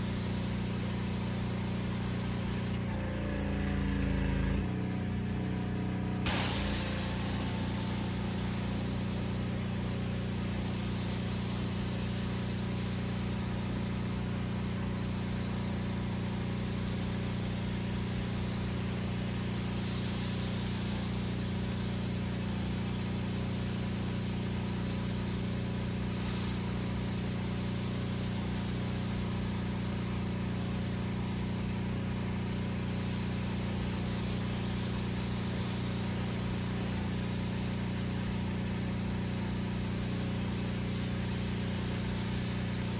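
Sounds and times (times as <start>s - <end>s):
water jet hissing: 0.0s - 2.9s, 6.2s - 42.9s
pressure washer engine running: 0.0s - 42.9s.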